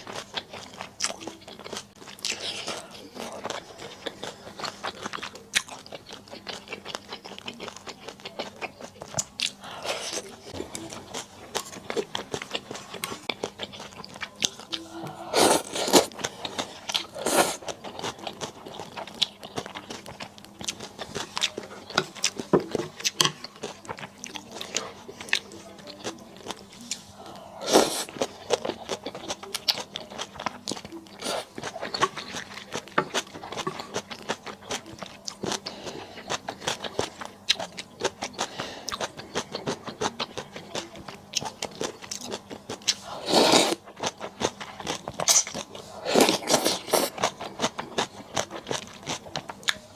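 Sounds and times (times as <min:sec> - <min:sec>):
chewing and biting: 0:00.0 - 0:49.9.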